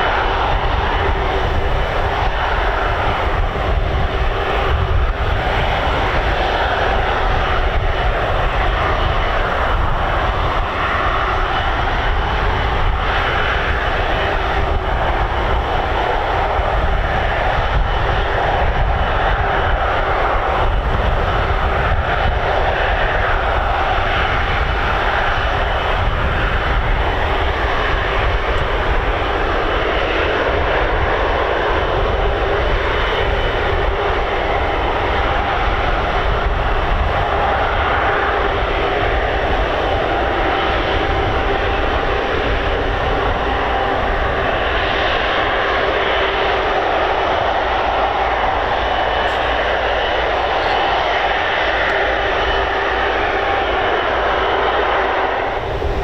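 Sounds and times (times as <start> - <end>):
aircraft engines running: 0.0 - 56.0.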